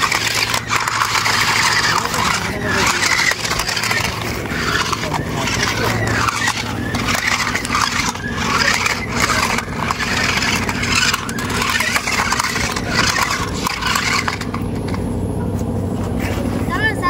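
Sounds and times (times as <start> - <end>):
rubber wheels scraping stone: 0.0 - 15.1
toy car motors whirring: 0.0 - 15.1.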